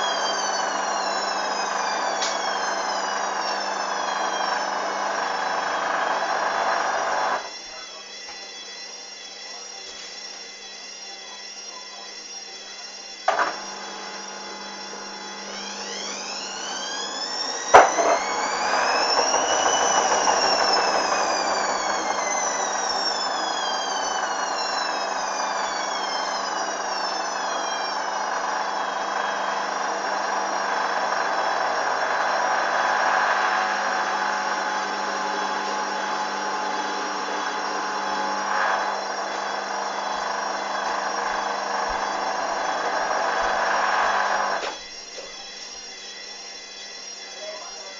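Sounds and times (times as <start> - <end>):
washing machine motor whine: 0.0 - 47.9
washing machine running hum: 0.0 - 47.9.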